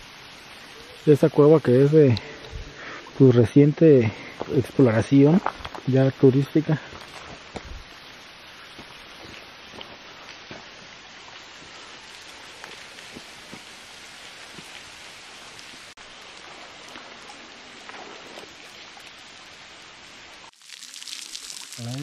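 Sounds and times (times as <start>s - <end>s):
water trickling and dripping: 0.0s - 22.0s.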